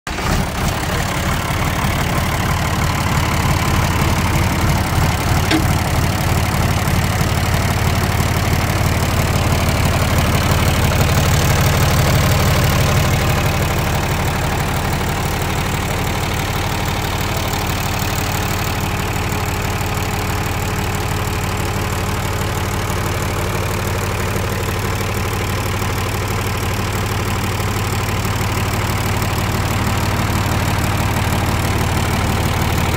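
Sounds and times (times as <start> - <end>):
diesel tractor engine idling: 0.1 - 32.9.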